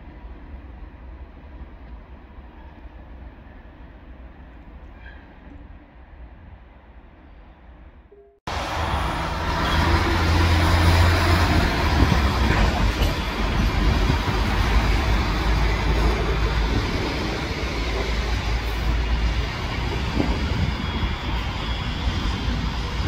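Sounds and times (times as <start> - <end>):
train rumble with rolling hiss: 0.0 - 7.2, 8.5 - 23.0.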